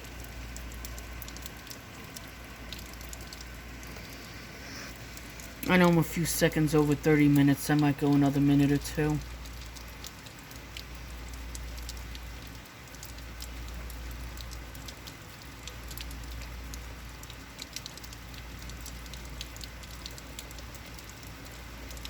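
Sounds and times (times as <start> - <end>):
rain falling: 0.0 - 22.0
raindrops ticking close by: 0.0 - 22.0.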